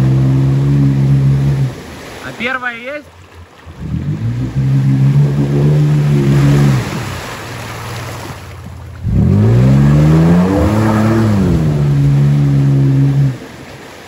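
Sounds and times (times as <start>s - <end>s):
car engine revving: 0.0s - 1.9s, 3.7s - 13.5s.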